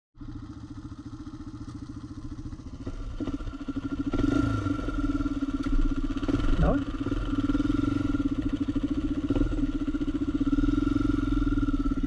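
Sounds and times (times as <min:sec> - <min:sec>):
quad bike engine running: 0:00.2 - 0:12.0.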